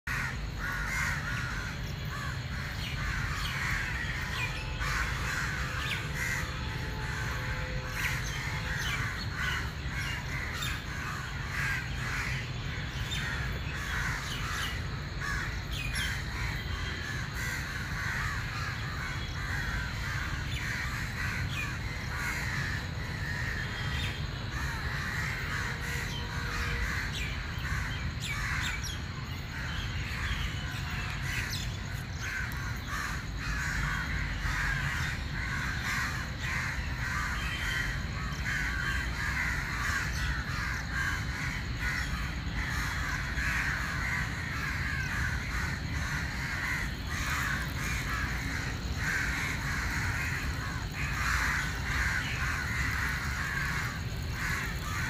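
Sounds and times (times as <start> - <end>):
crows cawing: 0.1 - 55.0.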